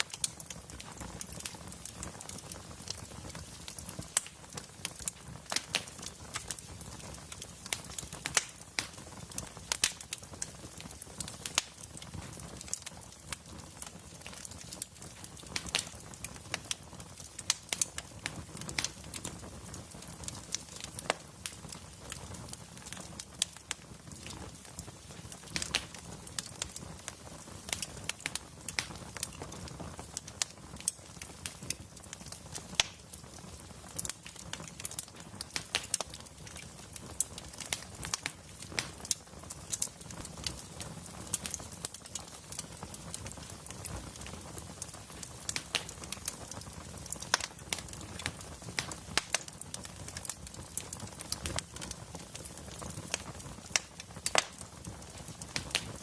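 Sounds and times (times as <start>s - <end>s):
fire popping: 0.0s - 56.0s
low fire rumble: 0.0s - 56.0s
wood fire crackling: 0.0s - 56.0s.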